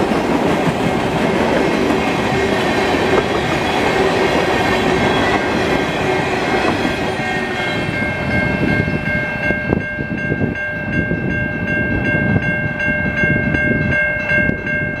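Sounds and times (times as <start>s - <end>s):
crossing warning bell ringing: 0.0s - 15.0s
freight train rolling past: 0.0s - 15.0s.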